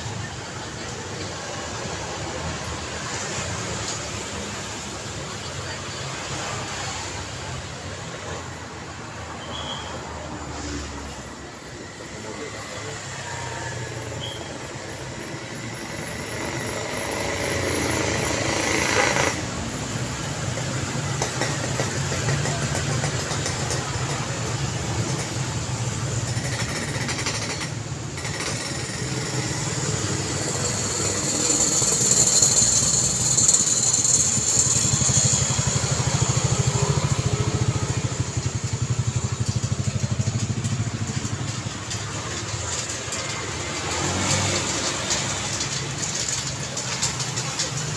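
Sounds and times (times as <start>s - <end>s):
road traffic rumble: 0.0s - 47.9s.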